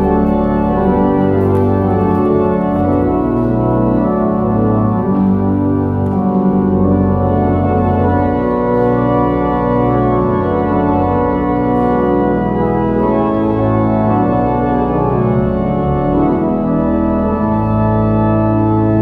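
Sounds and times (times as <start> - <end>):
organ playing held chords: 0.0 - 19.0.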